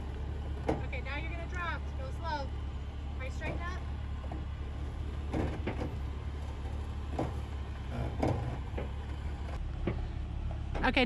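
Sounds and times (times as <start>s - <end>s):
suspension creaks and knocks: 0.0s - 11.0s
truck engine low rumble: 0.0s - 11.0s.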